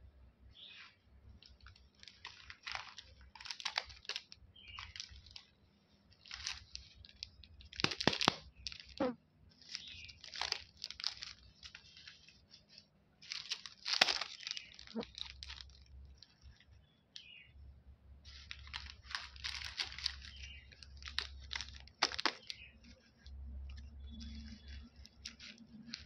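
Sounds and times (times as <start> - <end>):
candy wrappers crinkling: 1.4 - 17.4, 18.3 - 26.0.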